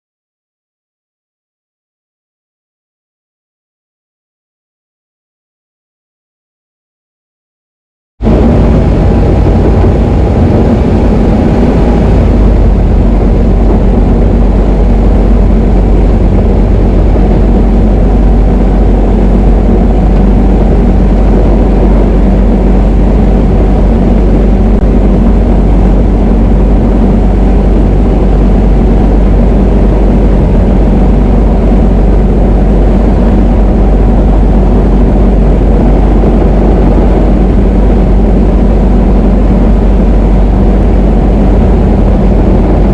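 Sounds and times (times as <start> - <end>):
light aircraft engine droning: 8.2 - 42.9.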